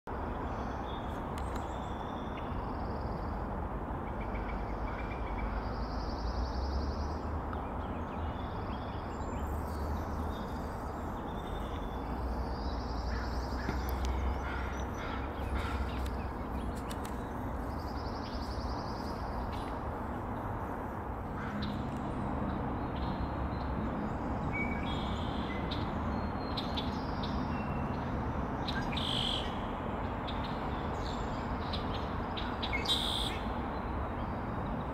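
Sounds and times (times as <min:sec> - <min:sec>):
traffic rumble and hiss: 0:00.1 - 0:34.9.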